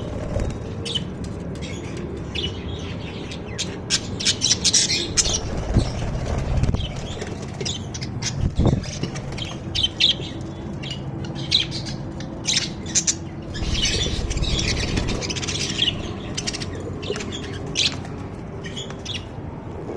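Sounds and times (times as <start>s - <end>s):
parrots chirping and squawking: 0.0s - 19.3s
low steady hum: 0.0s - 19.9s.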